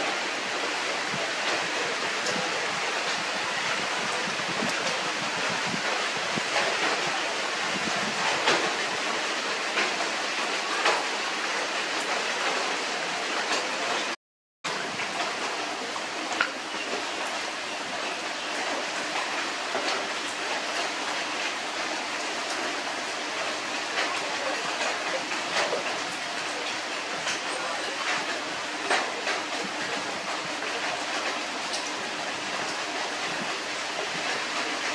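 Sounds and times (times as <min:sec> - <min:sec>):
heavy rain hissing: 0:00.0 - 0:34.9.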